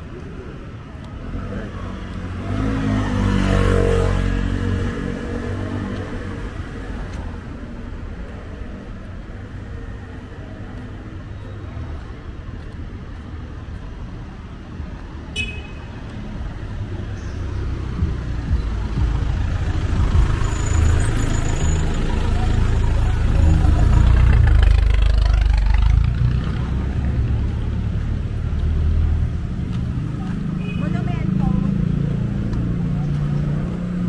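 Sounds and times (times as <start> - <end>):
vehicle engines passing by: 0.0 - 34.0.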